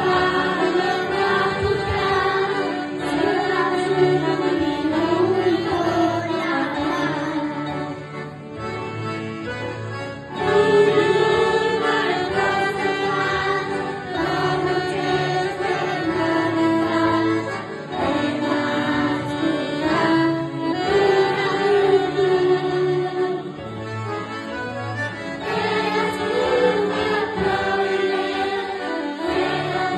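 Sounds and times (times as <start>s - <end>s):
children singing: 0.0s - 7.8s, 10.4s - 23.5s, 25.4s - 29.9s
accordion: 0.0s - 29.9s
keyboard: 0.0s - 29.9s.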